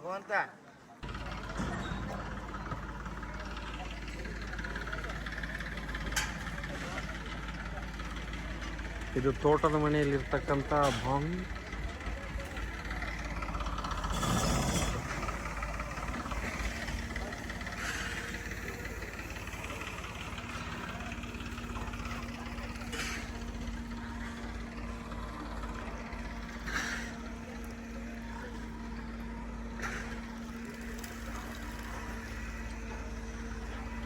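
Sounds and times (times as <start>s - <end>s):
low machine hum: 1.0s - 34.0s.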